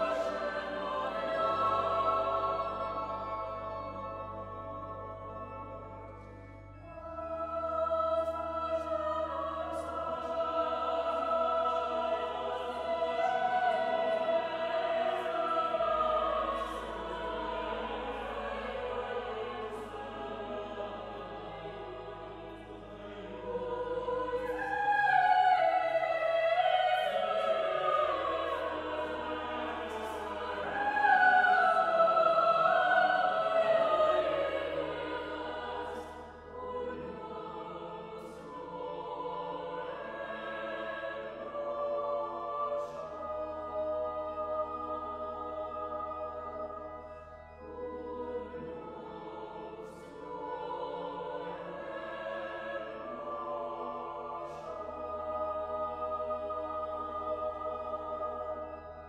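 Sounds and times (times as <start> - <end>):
choir singing choral music: 0.0 - 59.0.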